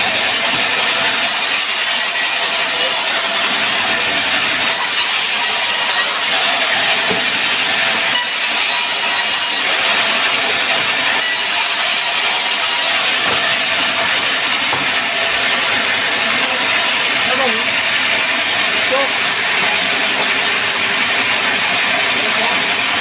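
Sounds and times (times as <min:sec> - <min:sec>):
woodworking machine hissing: 0:00.0 - 0:23.0.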